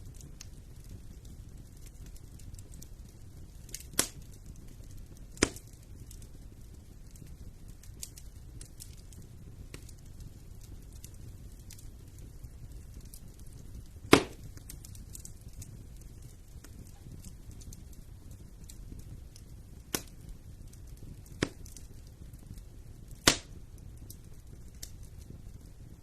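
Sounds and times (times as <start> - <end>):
loud fire pops: 0.0 - 26.0
wood fire crackling: 0.0 - 26.0.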